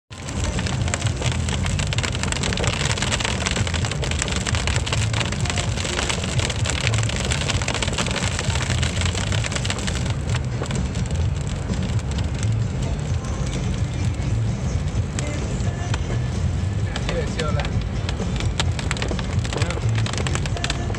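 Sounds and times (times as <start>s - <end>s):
heavy rain pouring: 0.1s - 20.9s.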